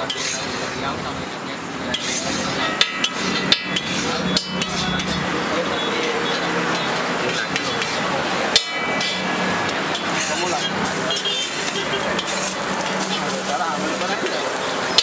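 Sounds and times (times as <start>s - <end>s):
metal spatula scraping griddle: 0.0s - 0.8s, 1.8s - 15.0s.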